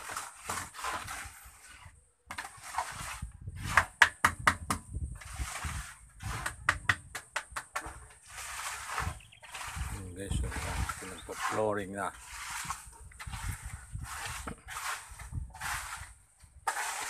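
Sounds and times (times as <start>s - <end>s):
trowel scraping wet cement: 0.0s - 4.2s, 5.2s - 17.0s.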